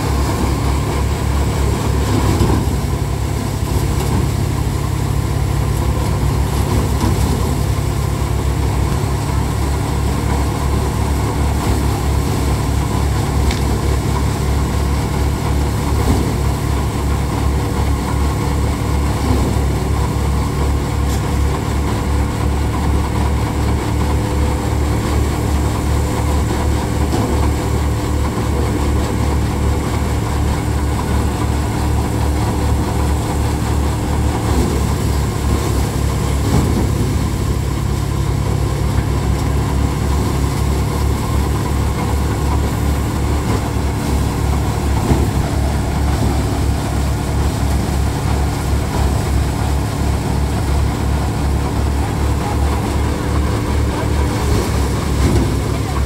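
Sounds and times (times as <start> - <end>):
thresher machine noise: 0.0 - 56.0
tractor diesel engine running: 0.0 - 56.0.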